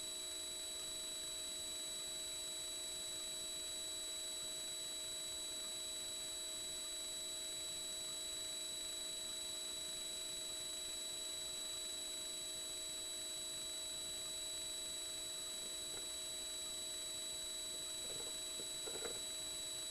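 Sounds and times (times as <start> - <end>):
faint hum tones: 0.1 - 19.9.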